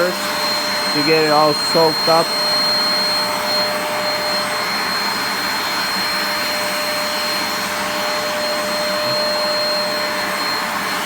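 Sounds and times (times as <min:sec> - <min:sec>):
carpet cleaner motor whining: 0:00.0 - 0:11.0.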